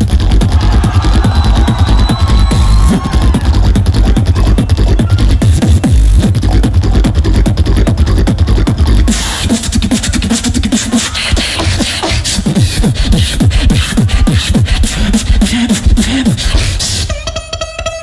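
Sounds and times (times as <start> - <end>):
beatboxing bass kicks: 0.0 - 18.0
beatboxing sharp clicks: 0.0 - 18.0.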